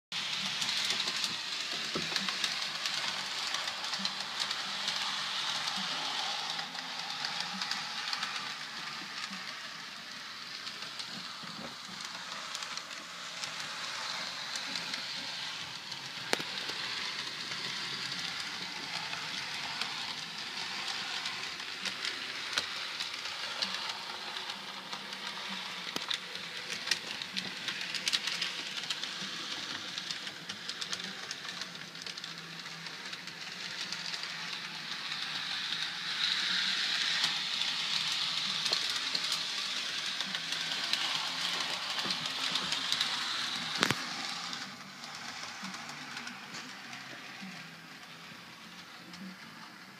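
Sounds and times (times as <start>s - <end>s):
model train motor whirring: 0.2s - 49.9s.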